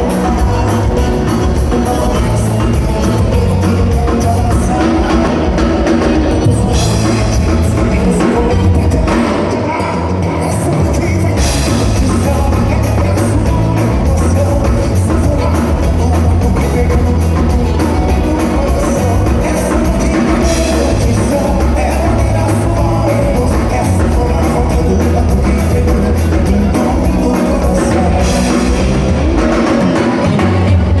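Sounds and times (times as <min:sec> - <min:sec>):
drum kit beat: 0:00.0 - 0:31.0
live band playing dance music: 0:00.0 - 0:31.0.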